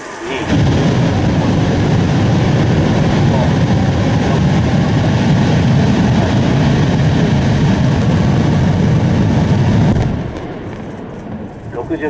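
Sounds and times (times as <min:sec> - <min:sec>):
rocket motor firing: 0:00.0 - 0:11.7.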